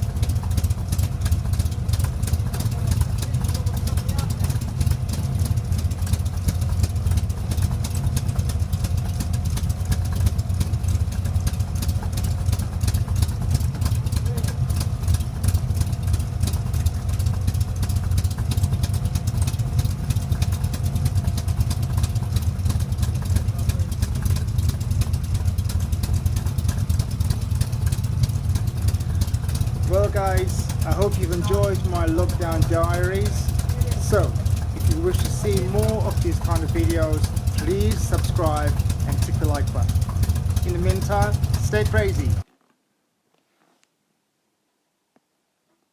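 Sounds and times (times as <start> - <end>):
car engine idling: 0.0 - 42.4.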